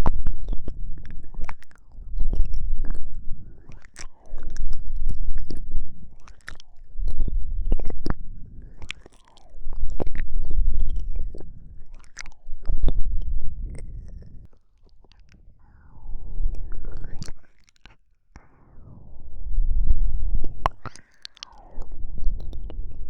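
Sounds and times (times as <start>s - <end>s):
wet lip smacks: 0.0s - 15.4s, 16.5s - 18.0s, 20.6s - 22.8s
tongue clicks: 0.0s - 18.5s, 19.8s - 23.0s.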